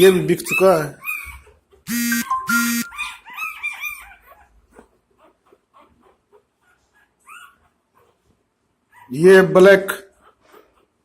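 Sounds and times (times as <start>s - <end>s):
puppies whimpering and squealing: 0.0s - 9.4s, 10.1s - 11.0s.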